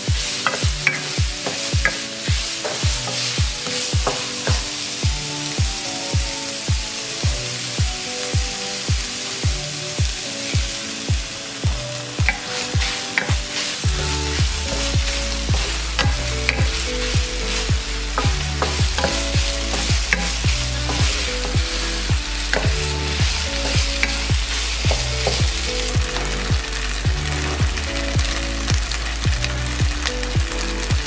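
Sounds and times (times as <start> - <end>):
meat sizzling in a pan: 0.0 - 31.0
music with steady beat: 0.0 - 31.0.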